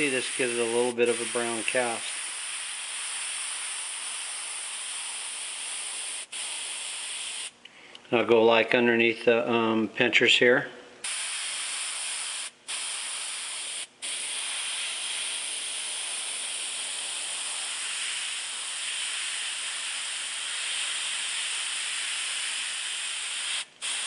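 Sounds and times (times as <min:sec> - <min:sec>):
airbrush spraying paint: 0:00.0 - 0:07.6, 0:11.0 - 0:24.0.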